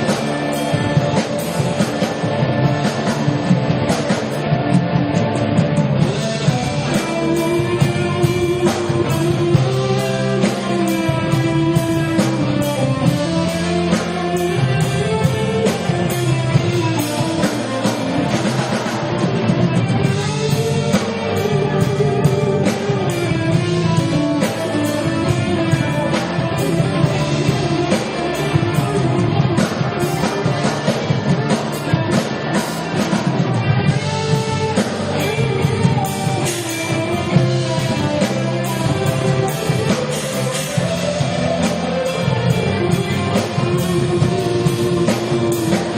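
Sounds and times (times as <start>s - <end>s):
amplified electric guitar: 0.0s - 45.9s
drum kit: 0.0s - 45.9s
live rock band: 0.0s - 45.9s.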